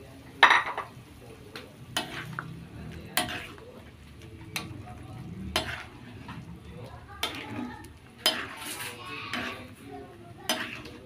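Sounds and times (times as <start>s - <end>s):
broth simmering: 0.0s - 11.0s.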